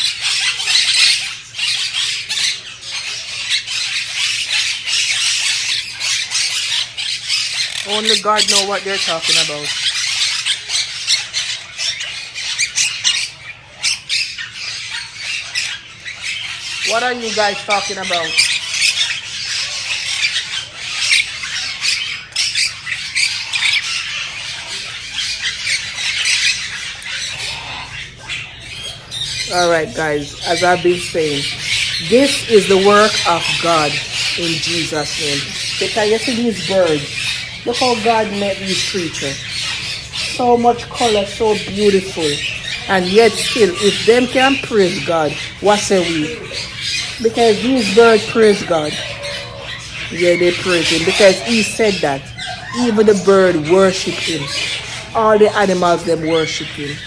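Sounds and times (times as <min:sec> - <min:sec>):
parakeets chattering and squawking: 0:00.0 - 0:57.0.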